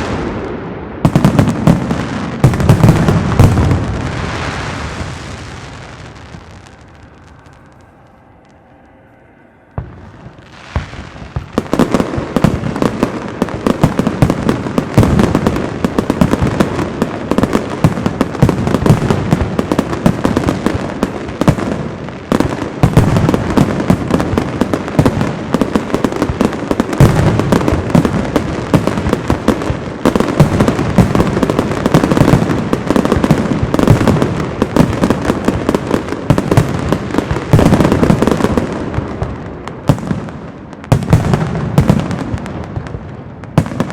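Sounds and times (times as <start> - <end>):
fireworks bangs and crackling: 0.0 - 8.1, 9.8 - 43.9.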